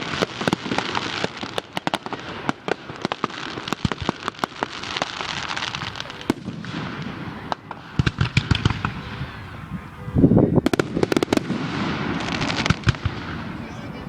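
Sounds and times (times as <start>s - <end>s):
fireworks booming: 0.0s - 14.0s
fireworks crackling pops: 0.0s - 14.0s.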